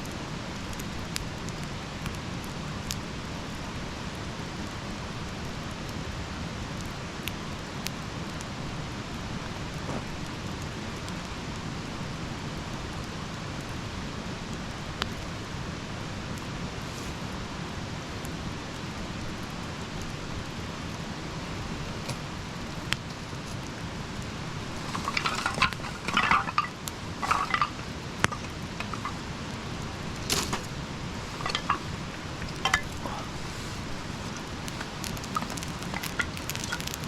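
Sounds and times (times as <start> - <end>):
campfire hissing: 0.0 - 37.0
fire crackling and popping: 0.0 - 37.0.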